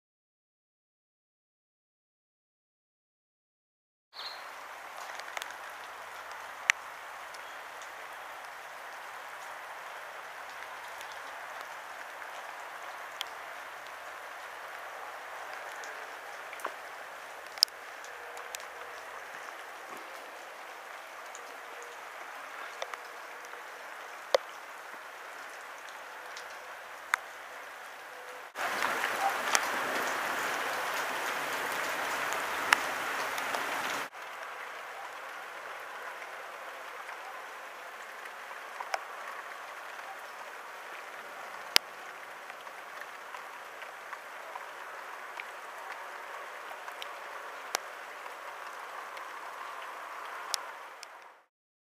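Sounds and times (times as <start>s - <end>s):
rain drop clicks: 4.2s - 51.4s
light rain pattering: 4.2s - 51.5s.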